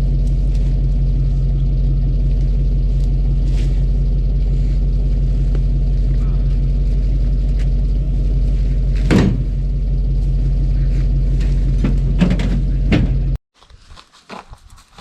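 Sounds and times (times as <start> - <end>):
truck engine running: 0.0 - 13.4.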